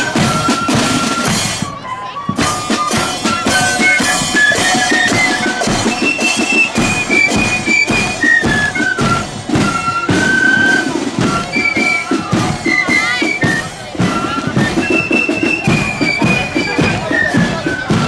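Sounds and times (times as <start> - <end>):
cymbals: 0.0 - 18.0
flutes playing melody: 0.0 - 18.0
snare drums: 0.0 - 18.0.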